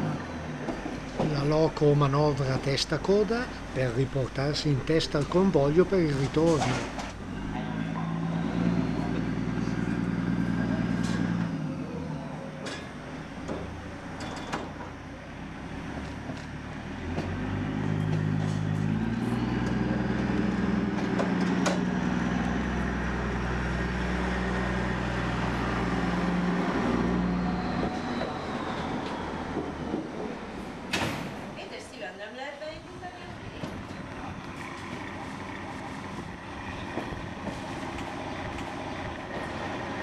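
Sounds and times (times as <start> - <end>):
diesel locomotive engine: 0.0 - 40.0.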